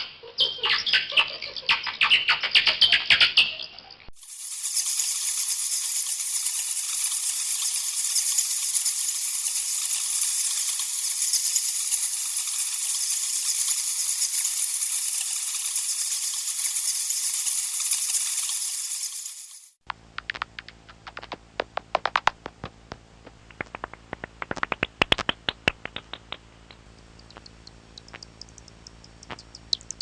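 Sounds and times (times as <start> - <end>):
bats chittering and clicking: 0.4 - 21.3, 23.9 - 30.0.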